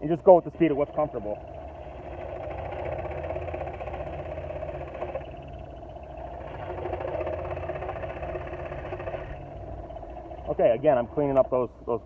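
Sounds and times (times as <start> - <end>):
scroll saw cutting wood: 0.2 - 10.6.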